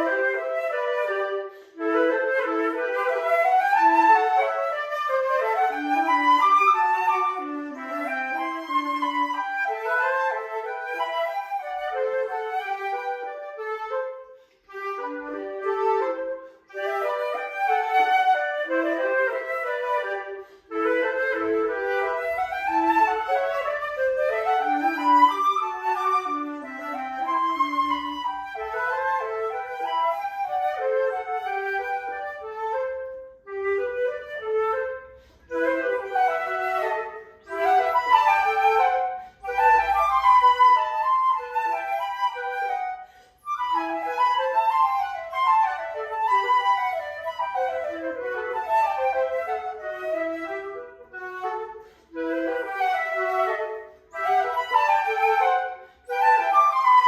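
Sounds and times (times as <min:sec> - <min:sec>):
flute playing classical piece: 0:00.0 - 0:57.0.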